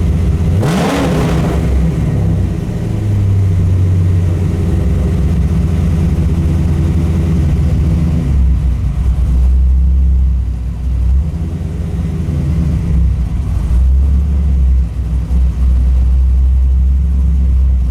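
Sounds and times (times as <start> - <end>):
car engine running: 0.0 - 17.9.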